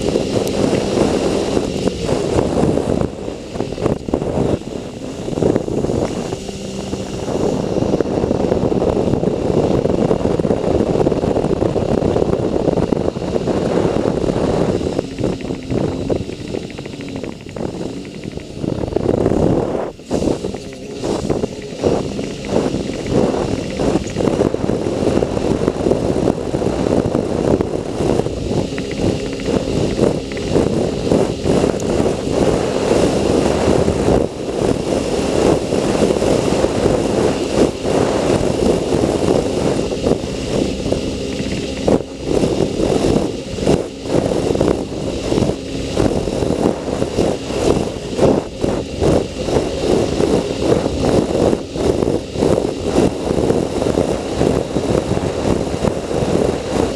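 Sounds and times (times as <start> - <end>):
watercraft engine running: 0.0 - 56.9.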